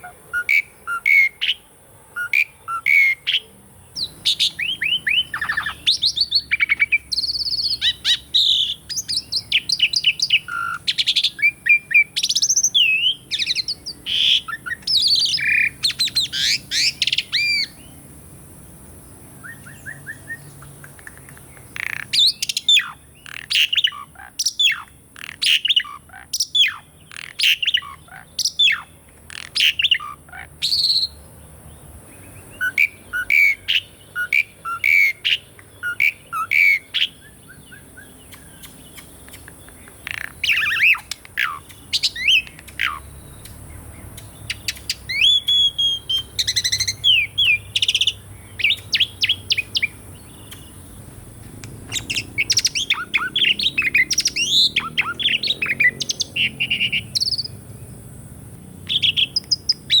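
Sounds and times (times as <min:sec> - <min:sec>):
starling singing: 0:00.0 - 0:01.6, 0:02.2 - 0:18.0, 0:19.4 - 0:31.2, 0:32.2 - 0:57.6, 0:58.8 - 1:00.0.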